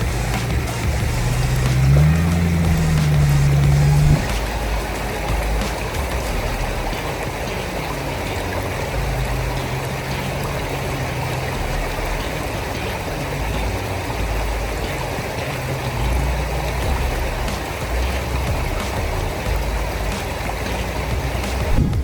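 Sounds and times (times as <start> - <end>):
low engine hum: 0.0 - 22.0
steady rushing noise: 0.0 - 22.0.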